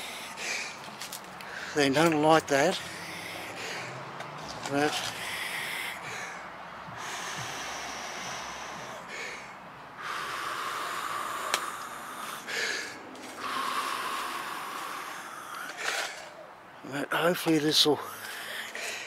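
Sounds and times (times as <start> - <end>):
man breathing laboriously: 0.0 - 16.9, 17.8 - 19.0.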